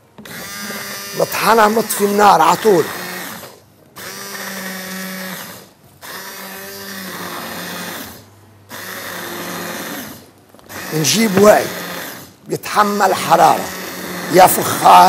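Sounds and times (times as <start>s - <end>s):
immersion blender whirring: 0.2s - 15.0s.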